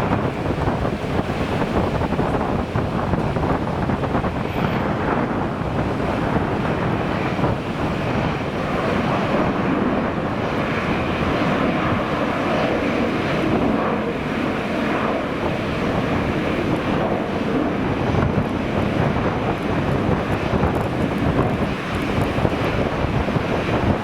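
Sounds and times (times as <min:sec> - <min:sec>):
jet engines: 0:00.0 - 0:24.0
wind rumbling on microphone: 0:00.0 - 0:24.0.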